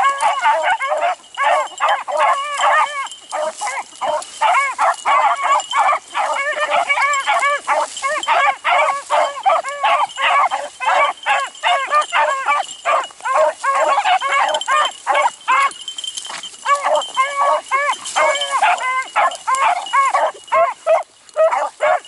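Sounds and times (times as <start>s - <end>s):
hounds baying: 0.0s - 22.0s.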